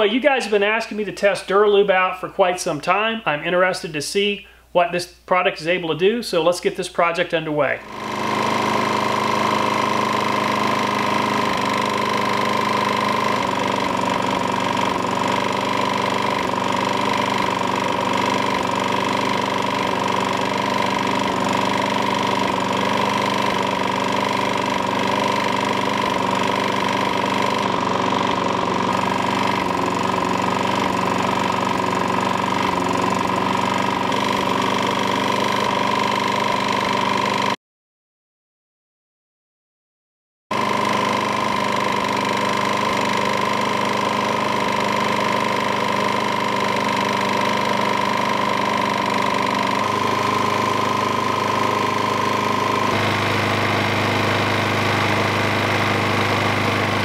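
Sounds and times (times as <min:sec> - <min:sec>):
lawnmower engine running: 0:07.7 - 0:37.6, 0:40.5 - 0:57.0.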